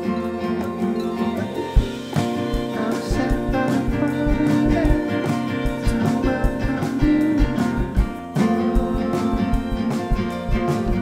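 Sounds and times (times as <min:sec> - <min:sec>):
song with guitar and drums: 0:00.0 - 0:11.0
kick drum thumping: 0:01.8 - 0:11.0.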